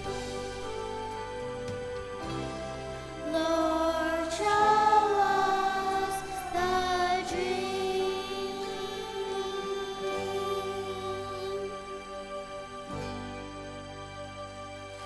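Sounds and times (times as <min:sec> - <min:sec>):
musical accompaniment: 0:00.0 - 0:15.0
voices singing long notes: 0:01.0 - 0:13.2.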